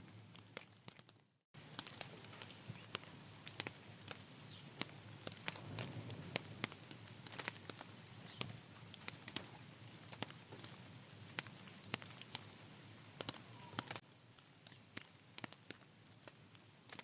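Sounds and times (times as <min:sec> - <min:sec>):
rainfall hiss: 0:01.6 - 0:17.0.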